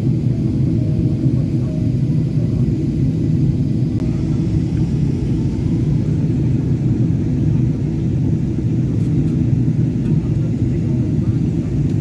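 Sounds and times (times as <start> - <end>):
airflow over fuselage: 0.0 - 12.0
airplane cabin engine drone: 0.0 - 12.0.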